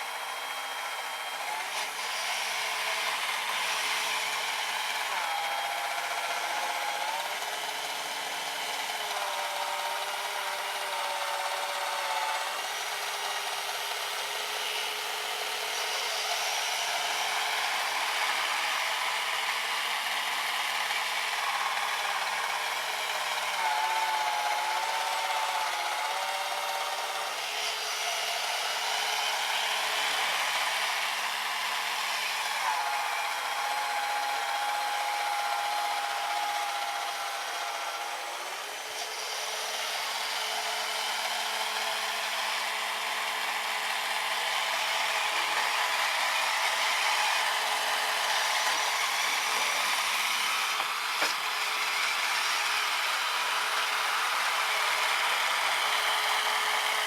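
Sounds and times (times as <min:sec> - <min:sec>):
small electric motor whining: 0:00.0 - 0:57.0.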